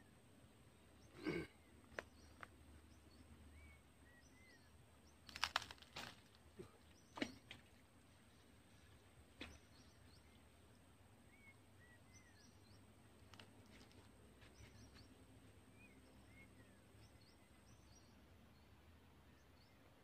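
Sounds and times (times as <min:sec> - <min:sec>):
faint bird chirps: 0:00.0 - 0:05.8, 0:06.5 - 0:20.0.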